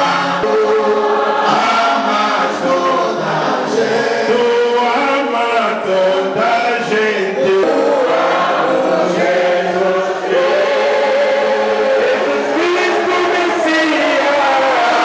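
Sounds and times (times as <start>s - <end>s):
group of voices singing: 0.0s - 15.0s
men singing into microphones: 0.0s - 15.0s.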